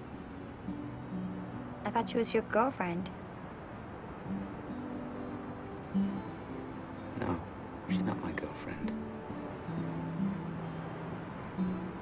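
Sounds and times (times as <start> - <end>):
soft sustained low music: 0.0 - 12.0.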